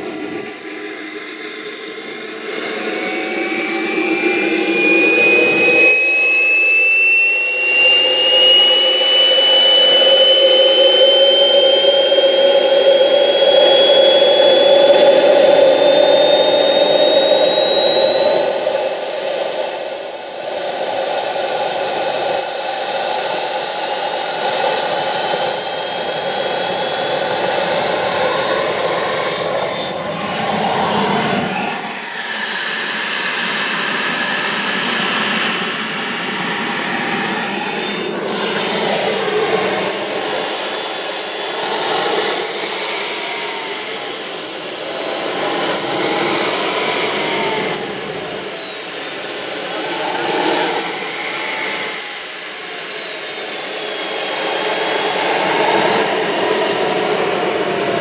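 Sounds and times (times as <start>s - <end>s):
exhaust rush: 0.0s - 6.8s, 7.4s - 58.0s
jet turbine whine: 0.0s - 58.0s.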